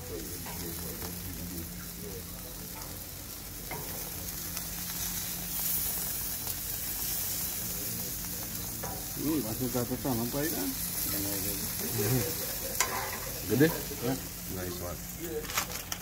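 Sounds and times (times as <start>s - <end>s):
steak sizzling on grill: 0.0s - 16.0s.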